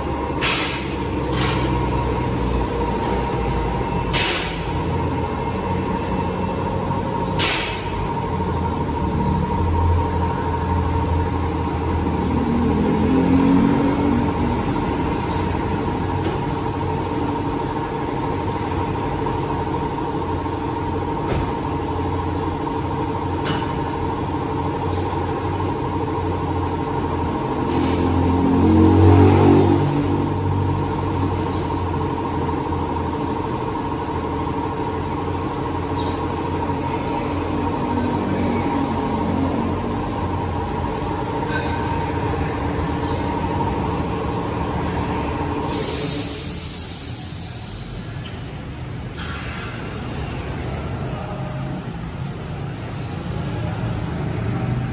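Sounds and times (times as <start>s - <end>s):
motor vehicles passing: 0.0s - 54.9s.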